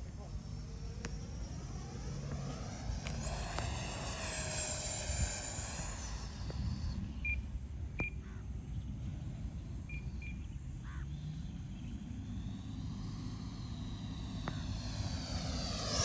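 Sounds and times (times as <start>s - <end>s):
electric ducted fan whine: 0.0s - 16.0s
low wind rumble: 0.0s - 16.0s.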